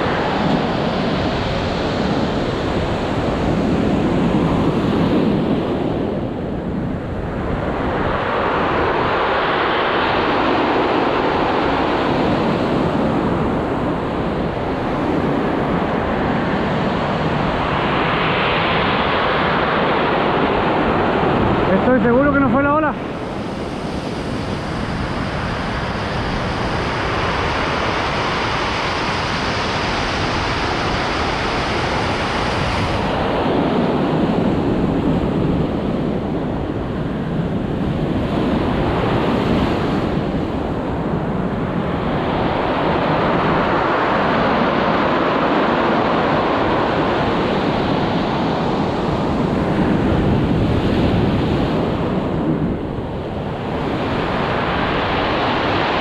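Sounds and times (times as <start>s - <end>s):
heavy surf on pebble beach: 0.0s - 56.0s
wind rumbling on microphone: 0.0s - 56.0s.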